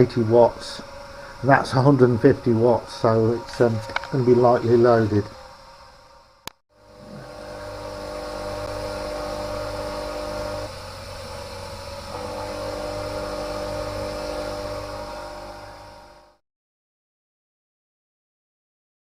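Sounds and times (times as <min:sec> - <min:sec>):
bench grinder motor humming: 0:00.0 - 0:06.1, 0:06.8 - 0:16.4.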